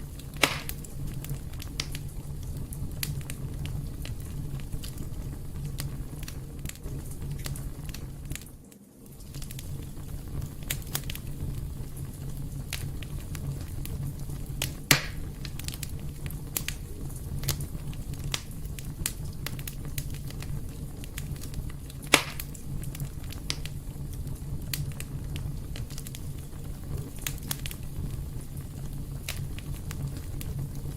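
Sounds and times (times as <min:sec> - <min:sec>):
fire pops: 0:00.0 - 0:30.9
wood fire crackling: 0:00.0 - 0:30.9.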